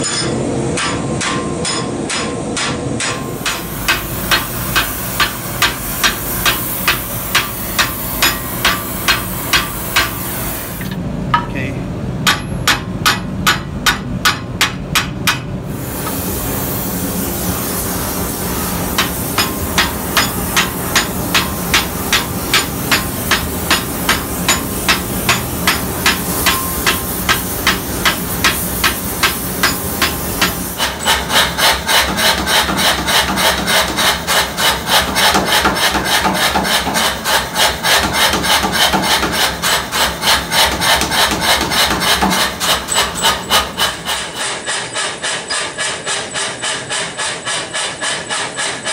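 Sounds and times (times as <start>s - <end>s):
hand hammer striking hot steel: 0.0s - 11.6s, 12.2s - 16.2s, 18.9s - 46.6s
gas torch hissing: 3.4s - 11.0s, 15.6s - 48.8s.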